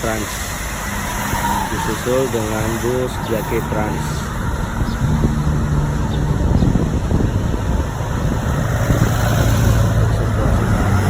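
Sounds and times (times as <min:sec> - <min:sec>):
bus engine rumble: 0:00.0 - 0:11.0
traffic noise: 0:00.0 - 0:11.0.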